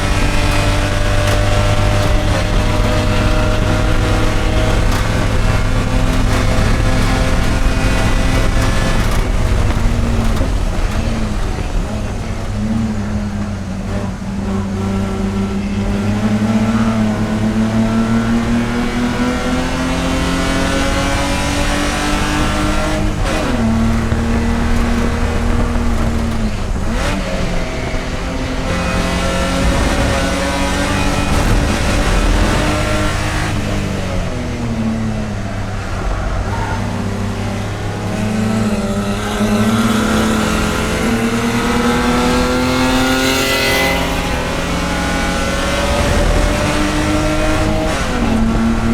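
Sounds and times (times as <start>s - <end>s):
race car engine running hard: 0.0s - 48.9s.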